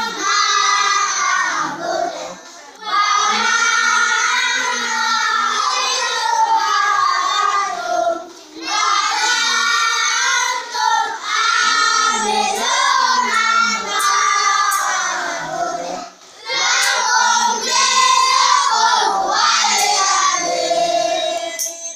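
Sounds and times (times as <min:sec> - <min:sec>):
children chanting in unison: 0:00.0 - 0:21.7.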